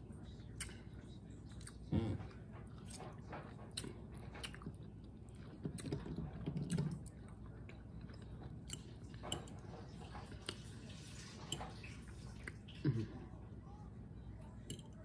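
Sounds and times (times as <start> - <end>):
person chewing: 0.4 - 9.6, 10.2 - 13.0.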